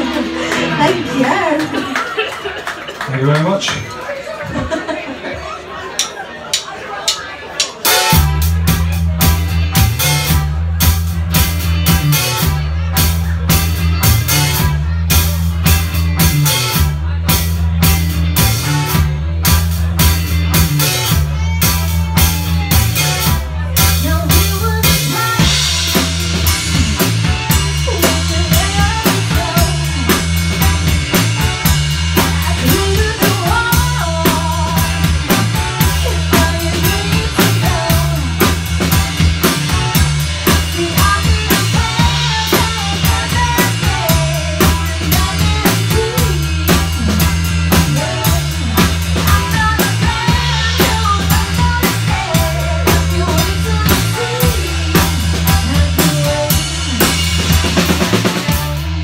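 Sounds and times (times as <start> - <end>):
electric guitar: 0.0 - 2.8, 7.8 - 59.0
drum kit beat: 0.0 - 2.9, 6.0 - 59.0
live rock band playing: 0.0 - 59.0.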